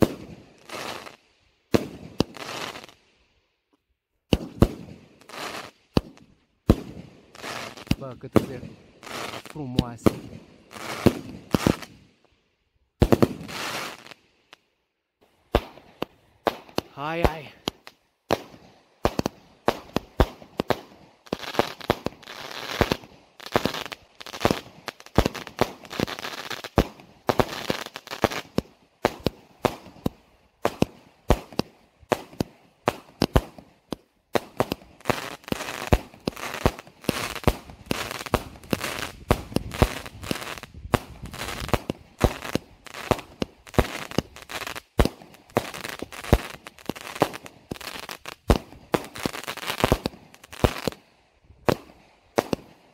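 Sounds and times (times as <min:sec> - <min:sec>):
firework bursts crackling: 0:00.0 - 0:03.2, 0:04.3 - 0:12.2, 0:12.9 - 0:14.6, 0:15.5 - 0:51.0, 0:51.6 - 0:52.9.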